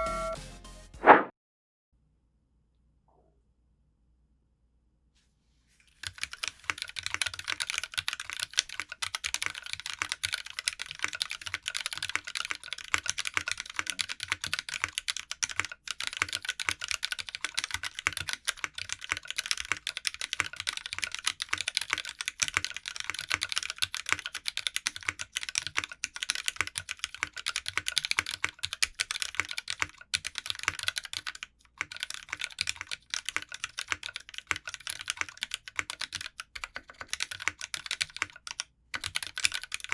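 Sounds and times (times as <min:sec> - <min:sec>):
fast typing on mechanical keyboard: 0:06.0 - 0:39.9.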